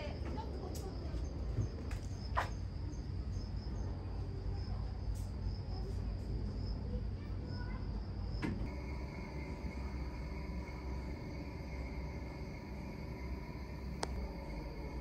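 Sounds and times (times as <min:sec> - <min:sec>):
insects chirping: 0:00.0 - 0:15.0
low outdoor rumble: 0:00.0 - 0:15.0.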